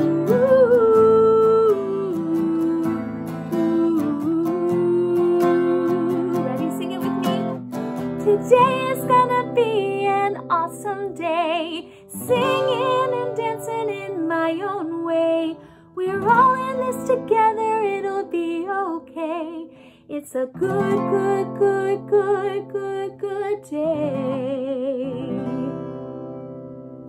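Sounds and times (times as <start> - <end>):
strummed acoustic guitar: 0.0 - 19.6, 20.5 - 27.0
woman singing: 0.0 - 26.1.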